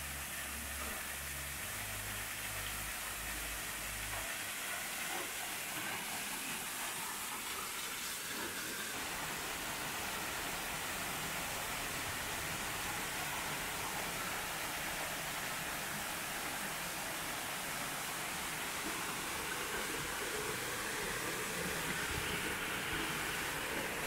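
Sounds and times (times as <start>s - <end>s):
waterfall pouring into pool: 0.0s - 24.0s.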